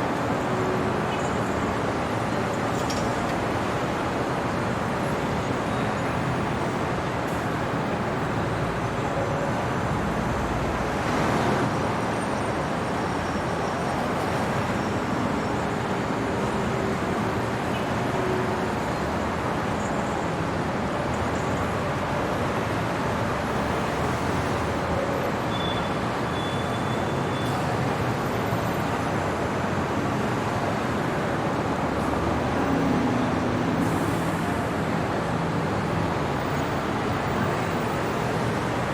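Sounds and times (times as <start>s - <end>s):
city traffic passing: 0.0s - 38.9s.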